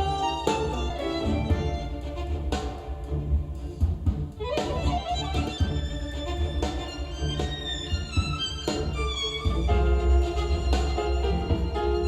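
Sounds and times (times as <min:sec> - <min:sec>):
sustained string notes: 0:00.0 - 0:12.0.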